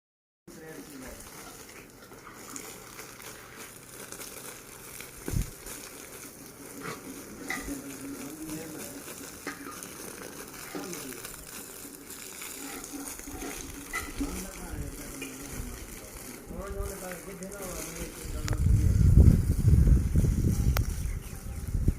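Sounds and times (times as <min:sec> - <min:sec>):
water splashing: 0:00.5 - 0:20.9
water spraying: 0:00.5 - 0:21.9.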